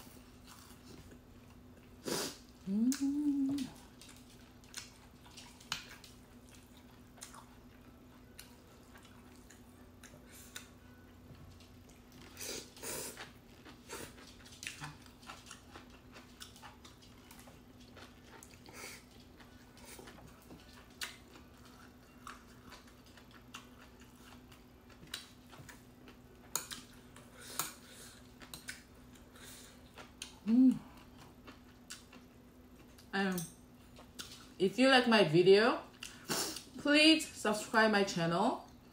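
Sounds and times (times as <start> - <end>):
faint steady hum: 0.0 - 38.9
chewing: 0.4 - 2.0, 2.6 - 33.1, 33.8 - 34.6, 35.9 - 36.7.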